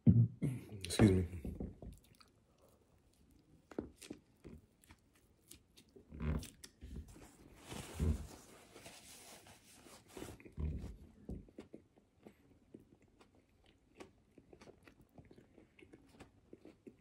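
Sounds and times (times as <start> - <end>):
person chewing close to microphone: 1.7 - 8.5, 10.0 - 17.0.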